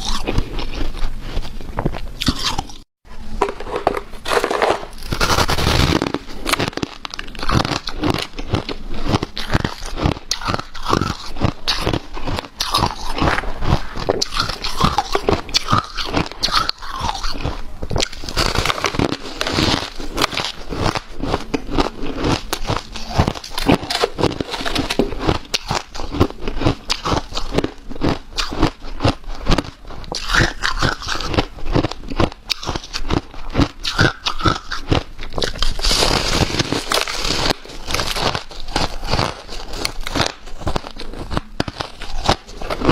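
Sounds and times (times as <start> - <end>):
person chewing crunchy ice: 0.0 - 3.0, 3.6 - 42.9.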